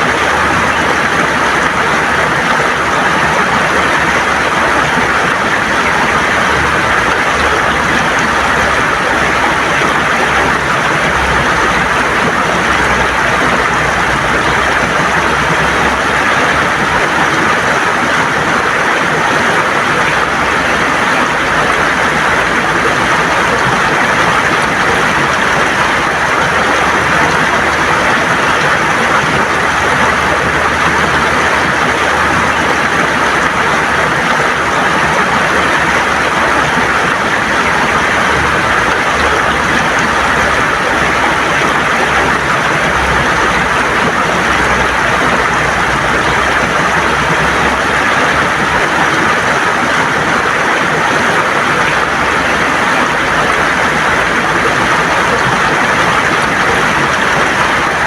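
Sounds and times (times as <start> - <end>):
river water gurgling over stones: 0.0 - 58.0.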